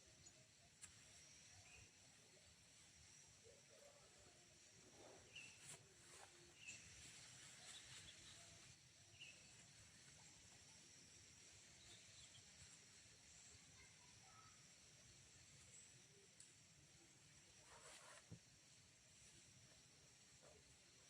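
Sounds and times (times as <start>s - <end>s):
faint forest ambience: 0.0s - 21.0s.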